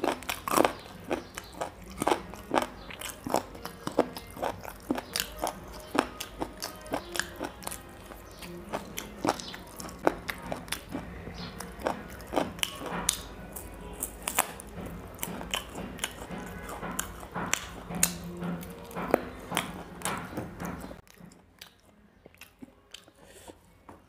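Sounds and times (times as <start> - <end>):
person chewing chicken: 0.0 - 23.8.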